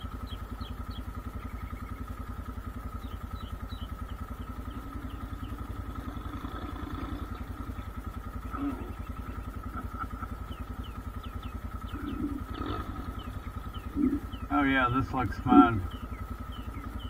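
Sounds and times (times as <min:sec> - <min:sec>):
faint birds chirping: 0:00.0 - 0:17.0
vehicle engine idling: 0:00.0 - 0:17.0.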